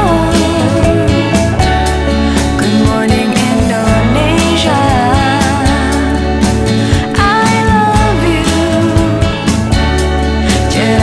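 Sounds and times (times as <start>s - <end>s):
band with drums and bass: 0.0s - 11.0s.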